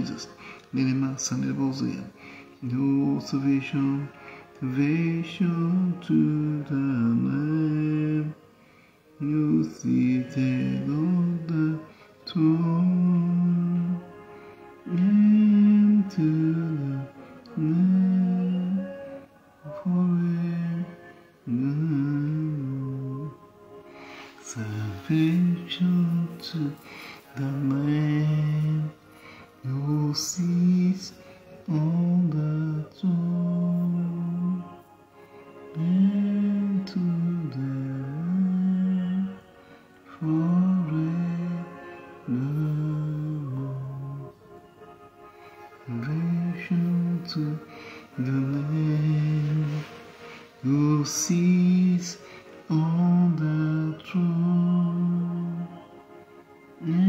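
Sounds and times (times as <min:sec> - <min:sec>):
man singing unaccompanied: 0:00.0 - 0:35.0, 0:35.6 - 0:44.4, 0:45.4 - 0:56.0, 0:56.8 - 0:57.0.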